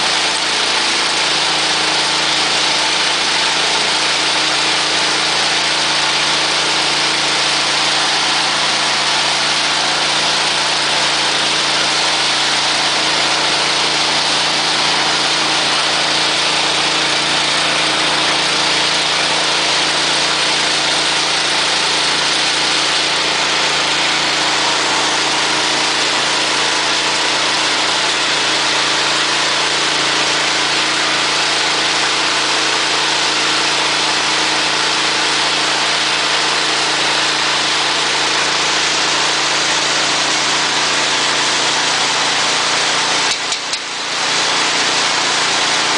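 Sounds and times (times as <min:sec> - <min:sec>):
petrol engine running steadily: 0:00.0 - 0:45.9.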